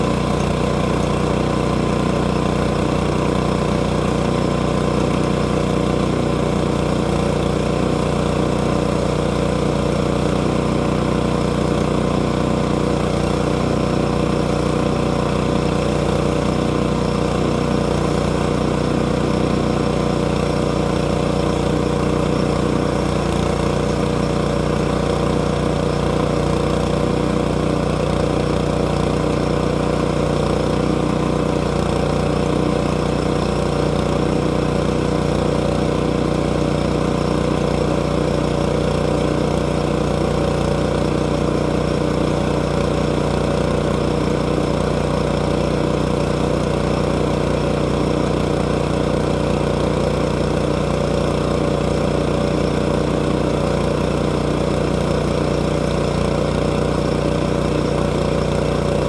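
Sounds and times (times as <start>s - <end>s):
gasoline engine running steadily: 0.0s - 59.0s.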